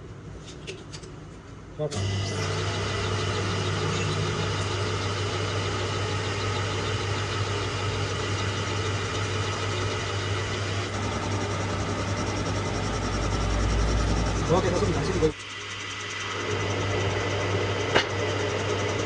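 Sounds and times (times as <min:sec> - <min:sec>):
metal lathe running: 0:02.0 - 0:19.0.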